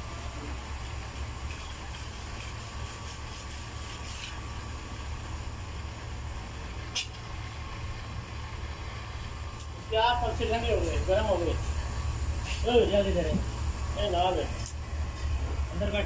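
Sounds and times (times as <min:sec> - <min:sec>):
hot-air welding gun humming: 0:00.0 - 0:16.0.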